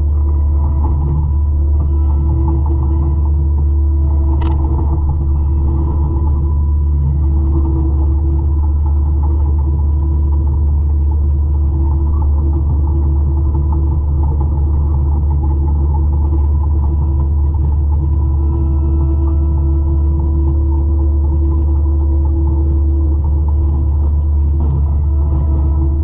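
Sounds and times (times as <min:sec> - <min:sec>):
forestry mulcher deep drone: 0:00.0 - 0:26.0.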